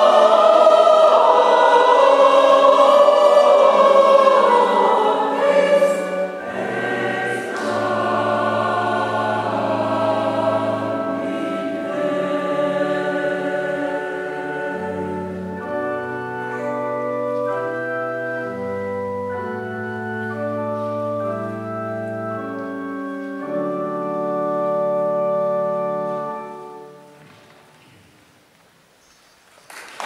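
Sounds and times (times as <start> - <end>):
keyboard playing organ-like chords: 0.0 - 27.3.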